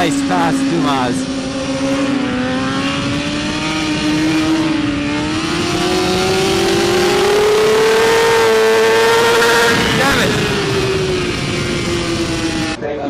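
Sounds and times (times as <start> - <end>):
racing motorcycle engine accelerating: 0.0 - 13.0.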